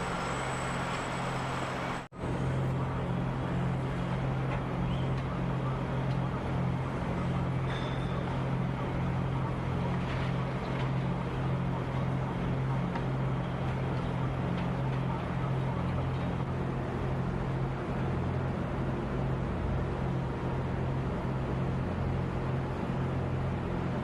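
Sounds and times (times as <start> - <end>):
heavy machinery engine humming: 0.0 - 24.0.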